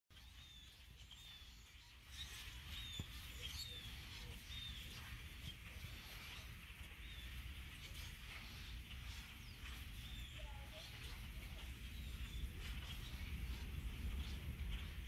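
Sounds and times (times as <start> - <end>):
birds chirping: 0.1 - 15.0
low outdoor rumble: 0.4 - 15.0.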